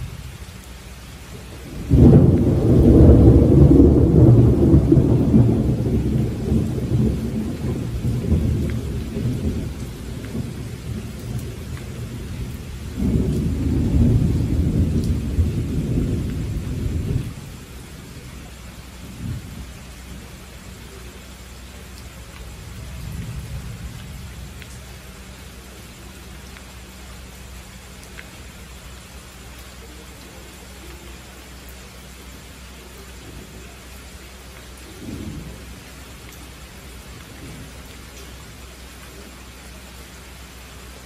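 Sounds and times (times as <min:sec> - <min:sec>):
thunder rumble: 0:00.0 - 0:32.2, 0:32.8 - 0:39.3
steady rain: 0:00.0 - 0:41.0.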